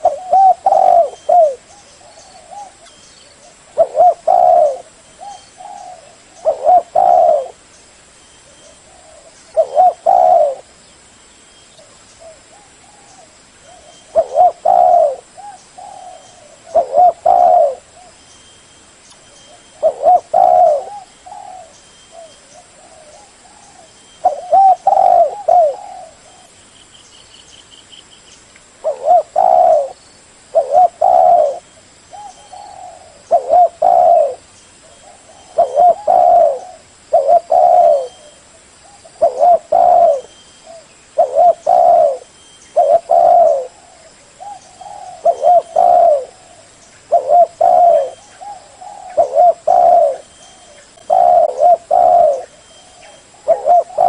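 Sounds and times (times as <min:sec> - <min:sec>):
dove cooing: 0:00.0 - 0:07.6, 0:08.4 - 0:10.7, 0:11.8 - 0:18.2, 0:19.5 - 0:26.6, 0:28.8 - 0:54.0.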